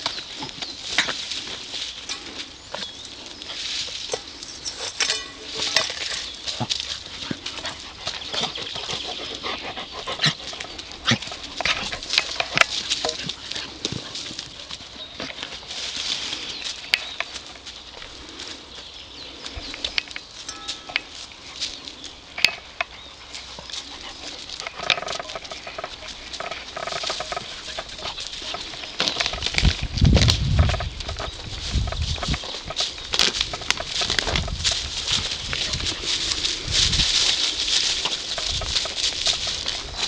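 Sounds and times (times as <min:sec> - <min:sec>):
dogs scuffling over dry leaves: 0:00.0 - 0:40.0.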